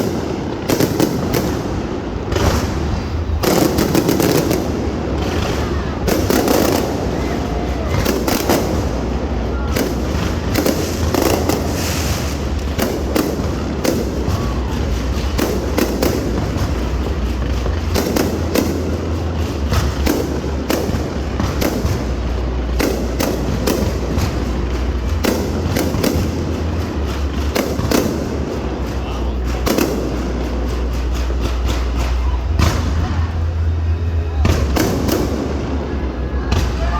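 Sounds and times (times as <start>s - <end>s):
fireworks bangs and crackles: 0.0s - 36.9s
low rumble: 0.0s - 36.9s.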